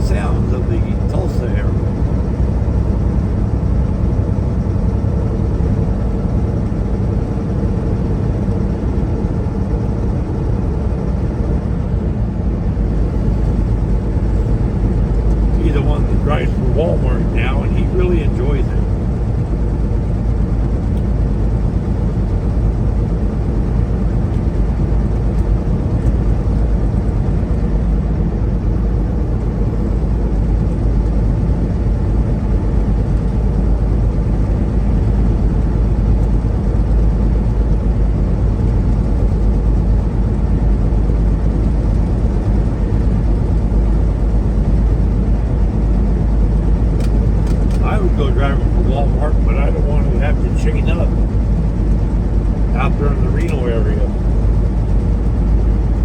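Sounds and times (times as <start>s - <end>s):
truck engine rumble: 0.0s - 27.9s, 29.1s - 56.0s
road noise inside cab: 0.0s - 56.0s.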